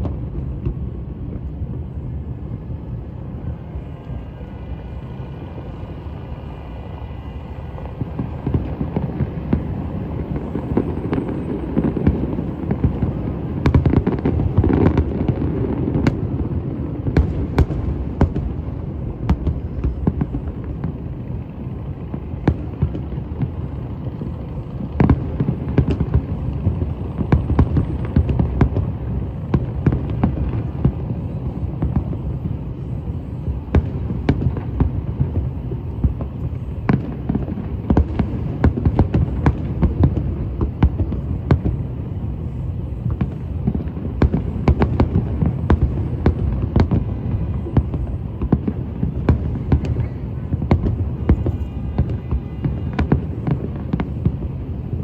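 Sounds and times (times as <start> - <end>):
fireworks bangs and crackles: 0.0 - 55.0
fireworks booming: 0.0 - 55.0.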